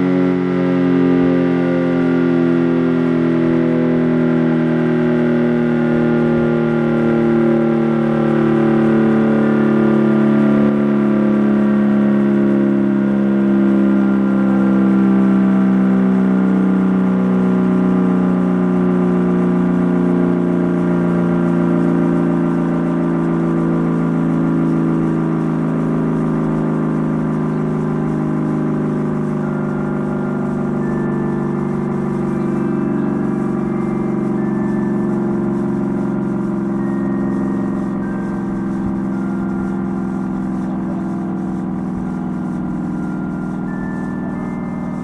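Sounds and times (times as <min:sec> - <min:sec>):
fire siren steady tone: 0:00.0 - 0:45.0.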